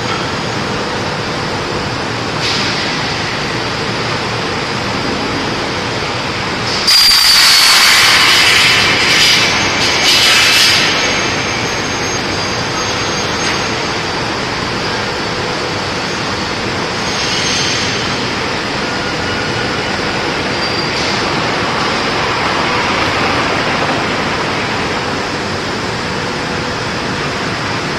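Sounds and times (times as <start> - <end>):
loud rushing machinery: 0.0 - 27.9.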